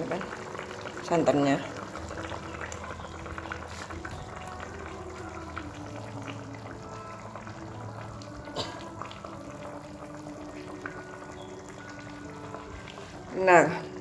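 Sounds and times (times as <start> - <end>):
liquid pouring: 0.0 - 14.0
soup simmering and bubbling: 0.0 - 14.0.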